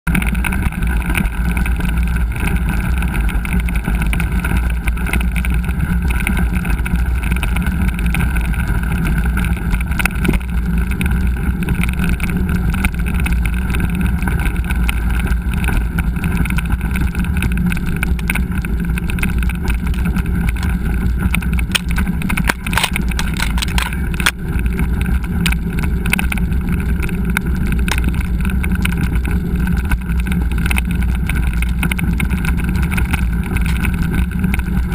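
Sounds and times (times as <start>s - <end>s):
bike knocks and rattles: 0.1s - 34.9s
wind noise: 0.1s - 34.9s.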